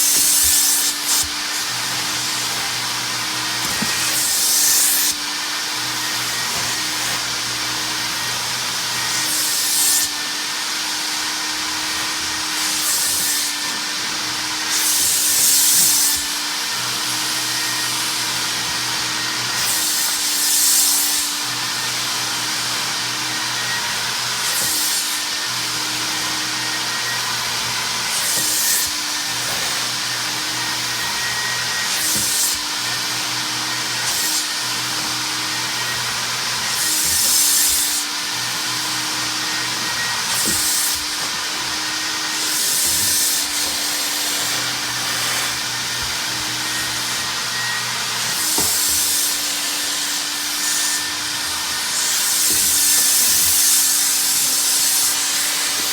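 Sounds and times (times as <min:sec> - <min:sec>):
carpet extractor running: 0:00.0 - 0:20.4, 0:21.0 - 0:55.9.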